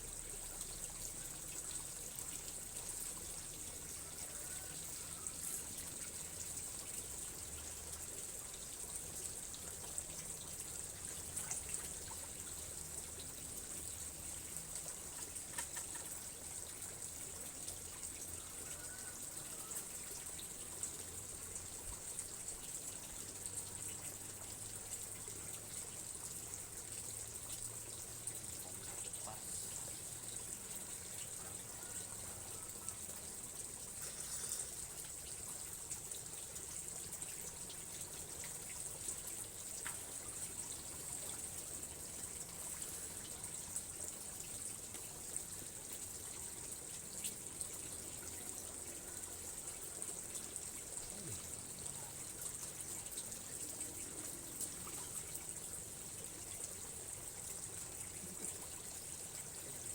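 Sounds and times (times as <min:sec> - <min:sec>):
continuous high hiss: 0:00.0 - 0:59.9
water trickling: 0:00.0 - 0:59.9.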